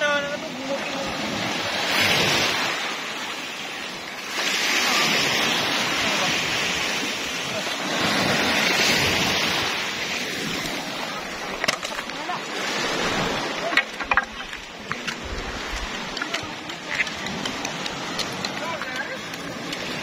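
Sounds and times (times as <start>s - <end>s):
small waves washing on shore: 0.0s - 20.0s.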